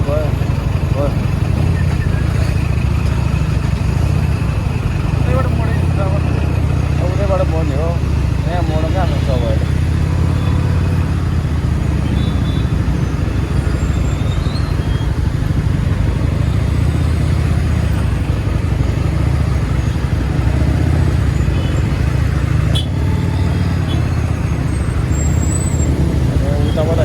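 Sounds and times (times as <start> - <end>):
motorcycle engine rumbling: 0.0 - 27.0.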